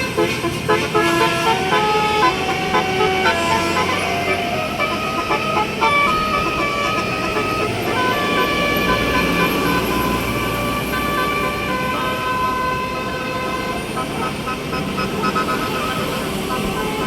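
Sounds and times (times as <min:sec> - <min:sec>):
bus engine running: 0:00.0 - 0:17.0
multi-tone melodic bus horn: 0:00.0 - 0:17.0.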